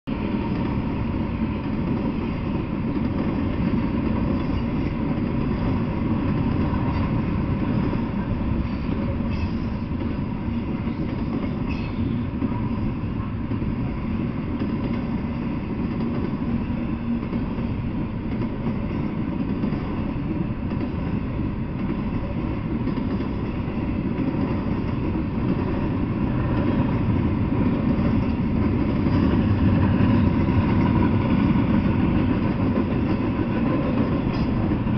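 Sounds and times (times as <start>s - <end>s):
freight train wheels rumbling on rails: 0.0s - 34.9s.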